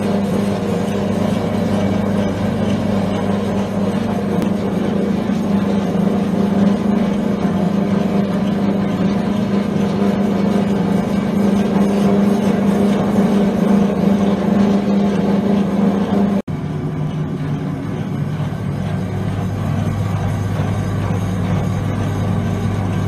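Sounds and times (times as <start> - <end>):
cutting machine humming: 0.0 - 23.0.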